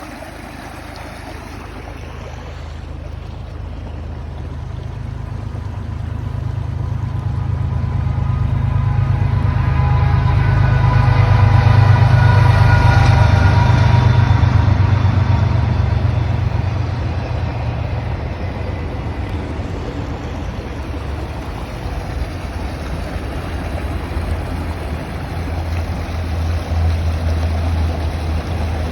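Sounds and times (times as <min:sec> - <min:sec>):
creek water rushing: 0:00.0 - 0:28.9
train engine drone: 0:00.0 - 0:28.9.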